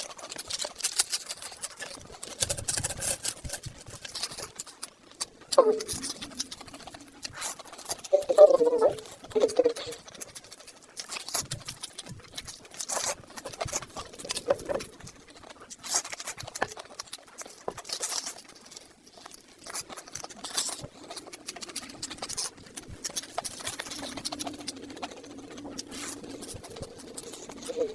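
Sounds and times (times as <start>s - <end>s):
person chewing: 0.0s - 27.9s.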